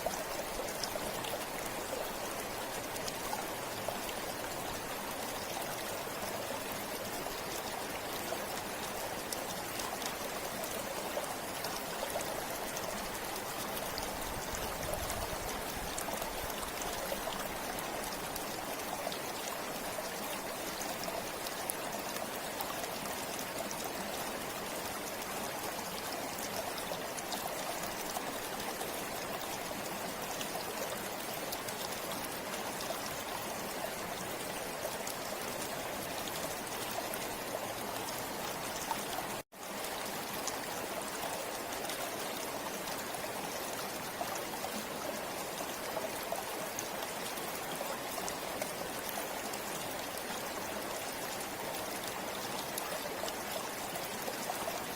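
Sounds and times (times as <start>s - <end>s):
river flowing over stones: 0.0s - 54.9s.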